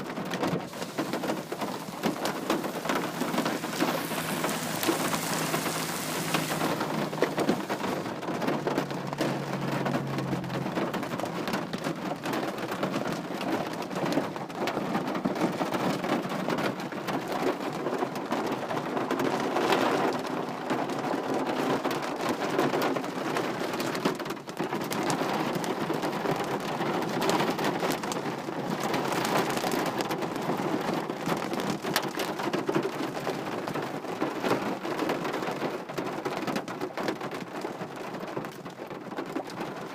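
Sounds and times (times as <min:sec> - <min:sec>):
rain falling: 0:00.0 - 0:39.9
raindrops striking a surface: 0:00.0 - 0:39.9.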